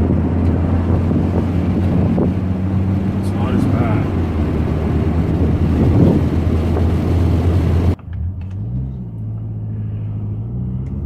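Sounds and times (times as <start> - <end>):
car engine running under load: 0.0 - 11.0
wind and road noise: 0.0 - 11.0.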